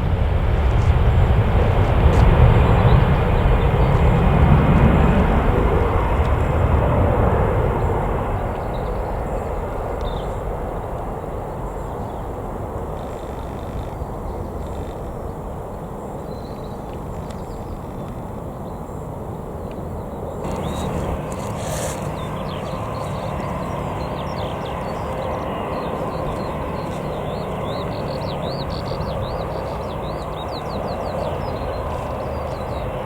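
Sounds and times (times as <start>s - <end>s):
jet airliner engine noise: 0.0s - 33.0s.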